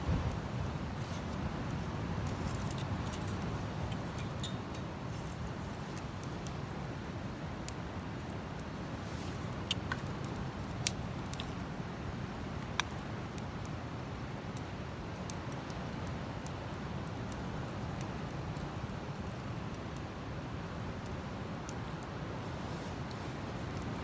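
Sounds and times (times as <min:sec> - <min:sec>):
wood crackling and popping: 0:00.0 - 0:19.6
campfire burning: 0:00.0 - 0:24.0.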